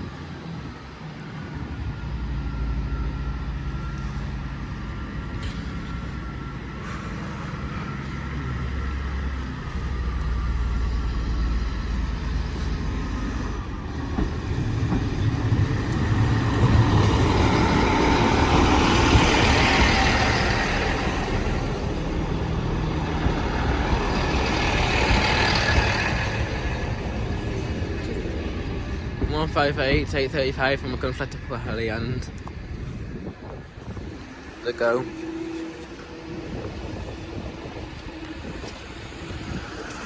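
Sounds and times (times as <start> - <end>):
train engine drone: 0.0 - 40.0
wheel and rail noise: 0.0 - 40.0.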